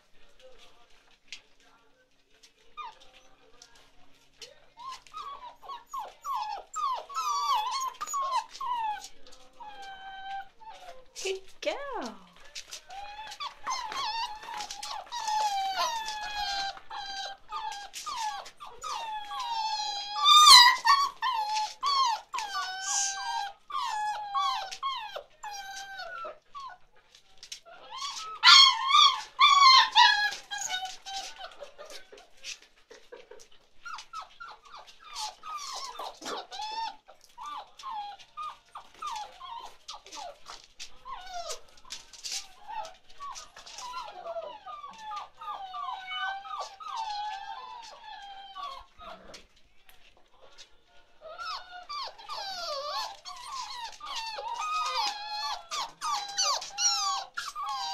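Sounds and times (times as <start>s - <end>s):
puppies whining and yelping: 4.8s - 11.2s, 12.8s - 32.2s, 33.0s - 49.4s, 51.2s - 57.9s.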